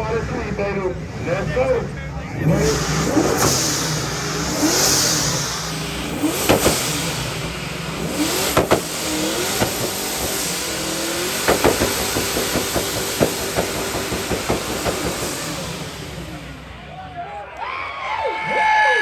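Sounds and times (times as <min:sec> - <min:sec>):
car engine revving: 0:00.0 - 0:17.2
exhaust cracks: 0:00.0 - 0:17.4.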